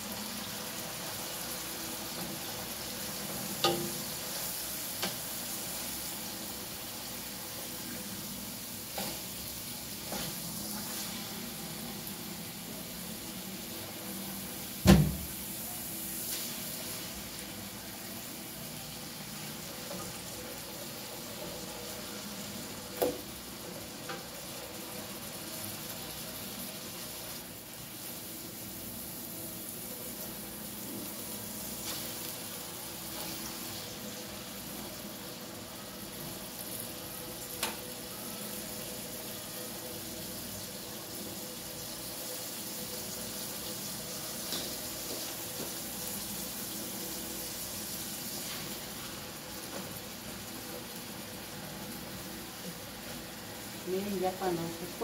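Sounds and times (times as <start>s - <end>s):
liver sizzling in oil: 0.0s - 55.0s.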